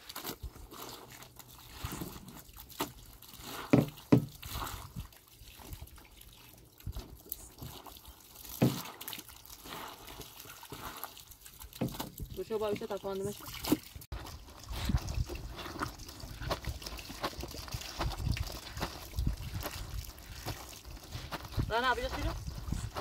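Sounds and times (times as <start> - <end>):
water splashing and dripping: 0.0 - 23.0
wet clothes scrubbed by hand: 0.0 - 23.0.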